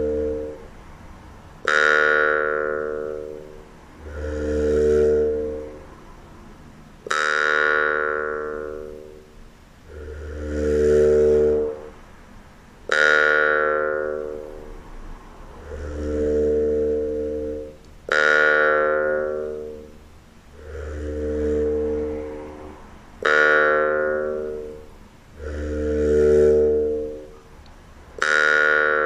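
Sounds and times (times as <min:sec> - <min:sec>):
struck ringing notes: 0:00.0 - 0:00.7, 0:01.6 - 0:06.0, 0:07.0 - 0:12.0, 0:12.8 - 0:27.4, 0:28.2 - 0:29.0
soft swelling tones: 0:00.0 - 0:29.0.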